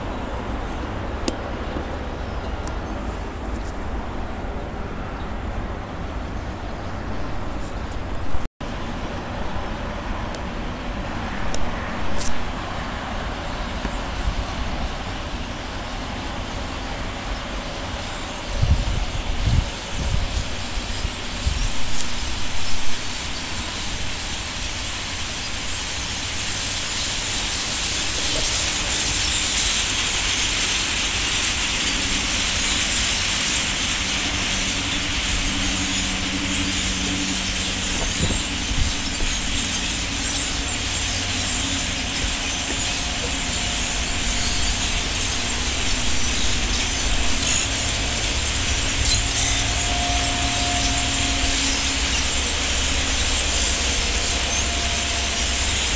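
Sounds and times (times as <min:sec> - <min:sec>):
flock of small birds calling: 0:00.0 - 0:08.2, 0:11.2 - 0:55.9.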